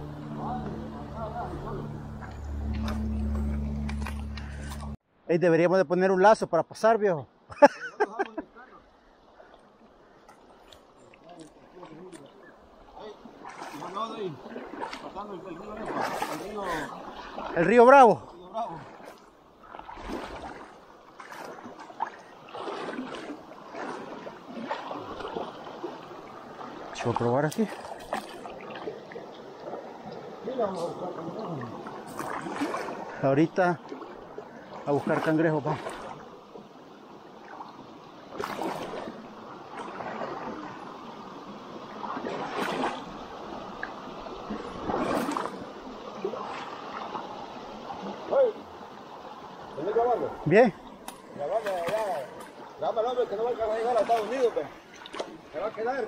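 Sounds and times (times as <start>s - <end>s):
river water splashing: 0.0s - 5.1s, 6.8s - 56.0s.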